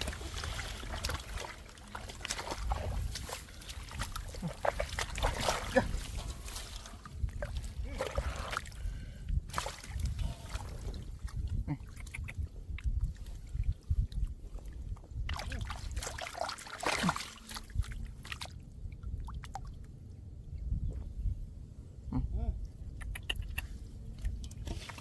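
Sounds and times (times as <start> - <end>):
steady low rumble: 0.0 - 16.0, 17.7 - 25.0
muddy water splashing: 0.0 - 20.0, 23.0 - 25.0.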